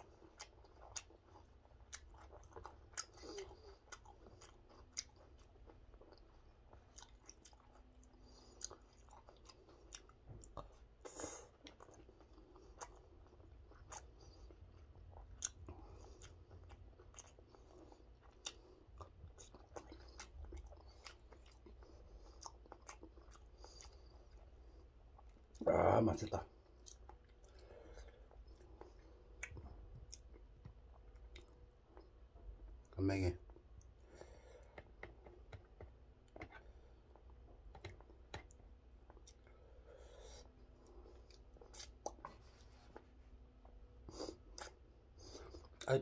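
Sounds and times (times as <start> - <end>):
person chewing with wet clicks: 0.0 - 46.0.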